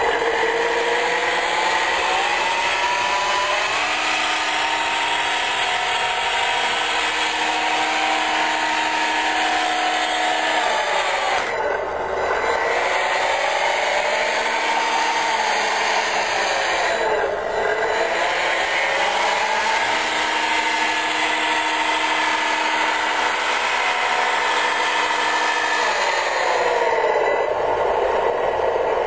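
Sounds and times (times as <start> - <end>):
electric motor and gears whining: 0.0 - 29.0.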